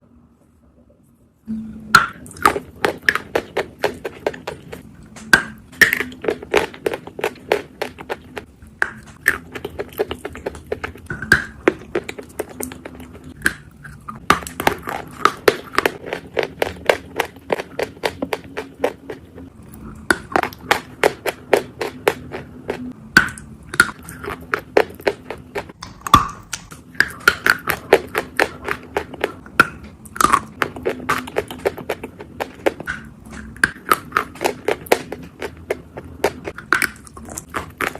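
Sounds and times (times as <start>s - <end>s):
chalk being bitten and chewed: 2.0s - 37.9s.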